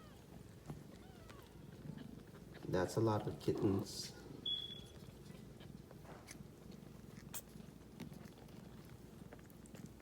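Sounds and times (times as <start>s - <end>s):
cat purring: 0.0s - 4.2s, 5.0s - 10.0s.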